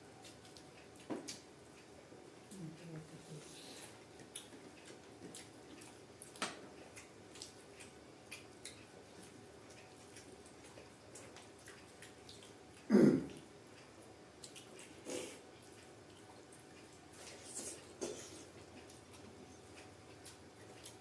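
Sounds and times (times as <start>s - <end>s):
wet mouth eating sounds: 3.8s - 21.0s.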